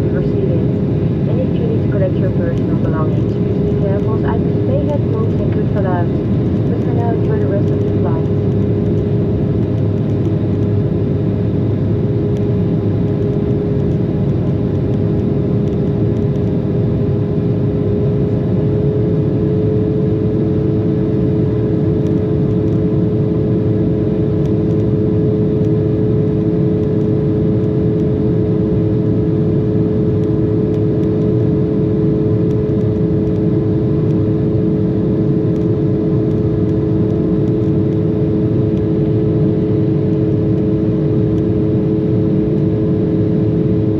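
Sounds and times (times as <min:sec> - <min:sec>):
airliner cabin rumble: 0:00.0 - 0:43.9
jet engines humming: 0:00.0 - 0:43.9
low hum: 0:00.0 - 0:43.9.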